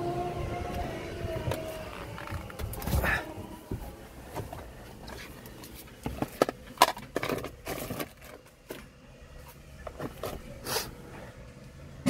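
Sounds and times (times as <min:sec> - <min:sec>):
objects handled inside car: 0:00.0 - 0:12.0.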